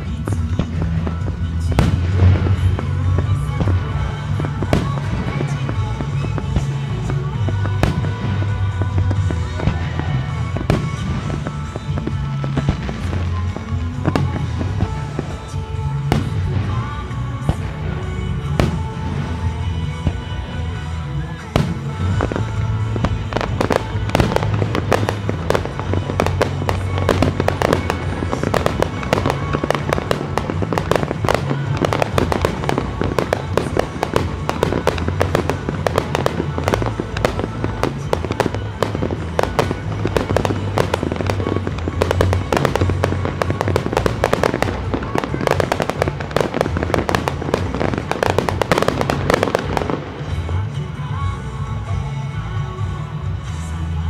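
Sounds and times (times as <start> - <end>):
fireworks bursting and crackling: 0.0 - 54.0
music playing: 0.0 - 54.0.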